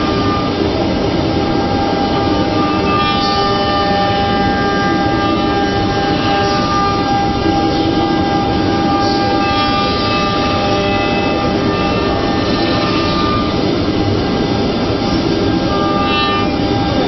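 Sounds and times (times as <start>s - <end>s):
cnc router whining: 0.0s - 17.0s
mechanical rumble: 0.0s - 17.0s.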